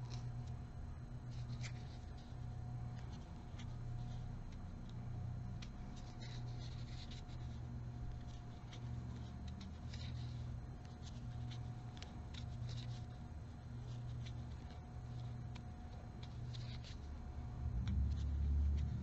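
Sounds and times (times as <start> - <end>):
steady low hum: 0.0 - 19.0
crochet hook scratching yarn: 1.3 - 4.7, 5.5 - 19.0.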